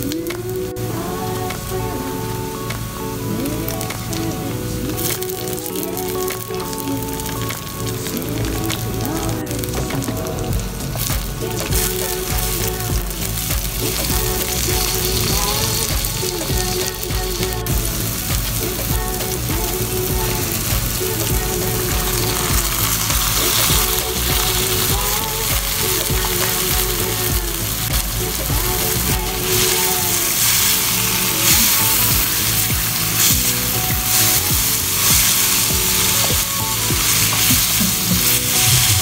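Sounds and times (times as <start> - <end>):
background music: 0.0 - 39.0
vegetables sizzling in hot oil: 0.0 - 39.0.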